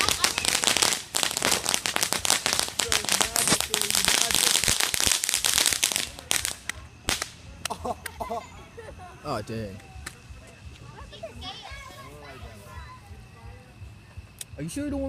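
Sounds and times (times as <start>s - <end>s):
firecrackers popping: 0.0s - 8.5s, 9.4s - 14.6s.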